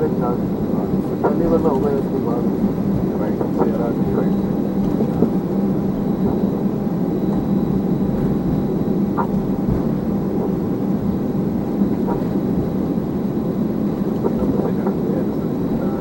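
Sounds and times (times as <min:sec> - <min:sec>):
aircraft engine and airflow rumble: 0:00.0 - 0:16.0.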